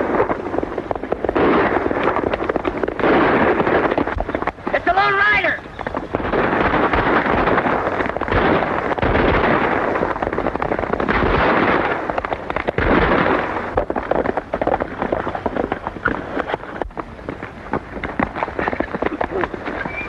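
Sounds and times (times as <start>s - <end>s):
gunshots: 0.0s - 16.6s
horses galloping: 0.0s - 20.0s.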